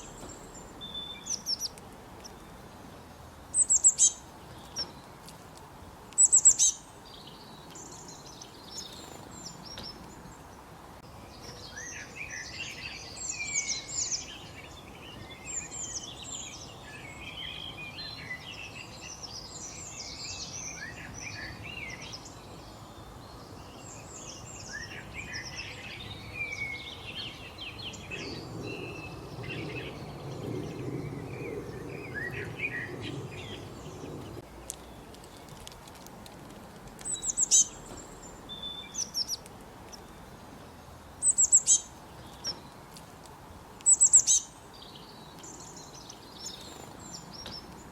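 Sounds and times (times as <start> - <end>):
bird singing and chirping: 0.0 - 2.6, 3.5 - 5.1, 6.2 - 10.3, 11.1 - 35.5, 37.0 - 40.2, 41.2 - 42.8, 43.8 - 47.9.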